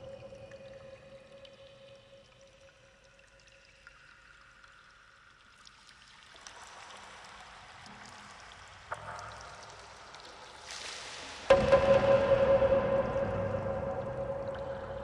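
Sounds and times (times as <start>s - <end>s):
pouring trickling water: 0.0s - 15.0s.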